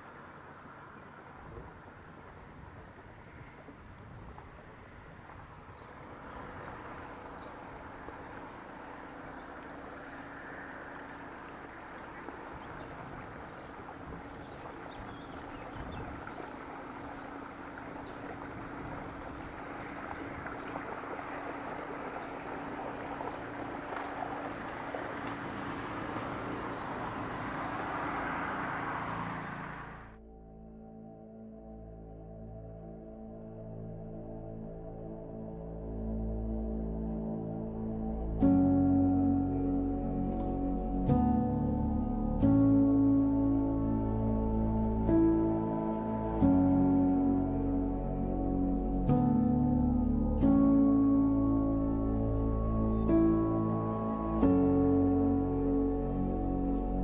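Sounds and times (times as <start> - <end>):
boat engine running: 0.0 - 30.2, 37.7 - 57.0.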